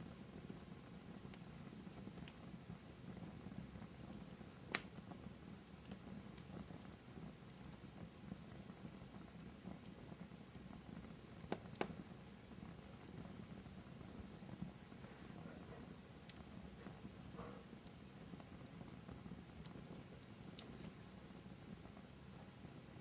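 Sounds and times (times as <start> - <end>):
fireplace fire crackling: 0.0 - 23.0
sharp pops of fire: 0.0 - 23.0.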